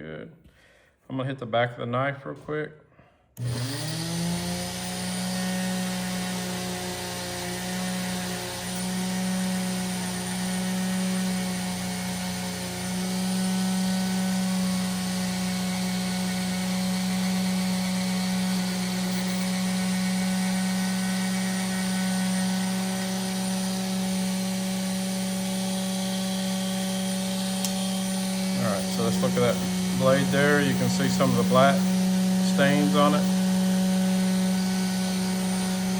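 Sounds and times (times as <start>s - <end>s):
rotary tool motor hum: 3.4s - 35.9s.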